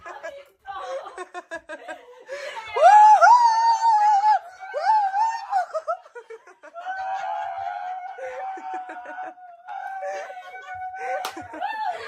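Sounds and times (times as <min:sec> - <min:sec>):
young women laughing: 0:00.0 - 0:12.0.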